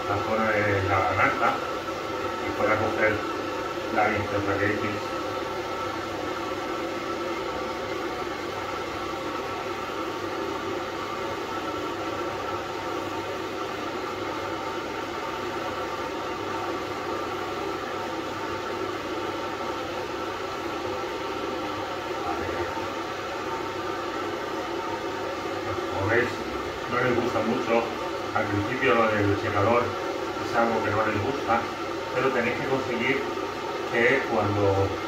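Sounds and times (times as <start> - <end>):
blow dryer running: 0.0 - 35.0.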